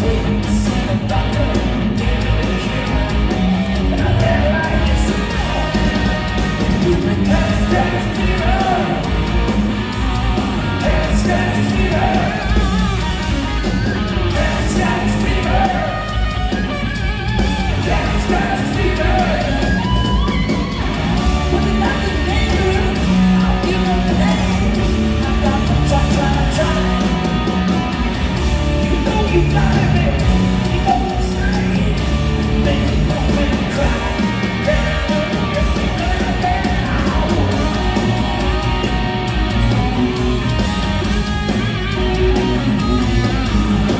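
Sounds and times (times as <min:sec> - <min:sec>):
sung vocals: 0:00.0 - 0:13.2, 0:14.2 - 0:16.7, 0:17.6 - 0:20.2, 0:21.2 - 0:27.8, 0:28.8 - 0:40.5
live hard rock band: 0:00.0 - 0:43.9.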